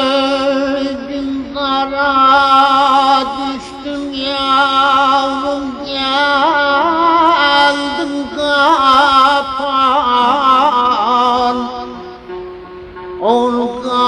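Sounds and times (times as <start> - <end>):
ornamented folk melody: 0.0 - 14.0.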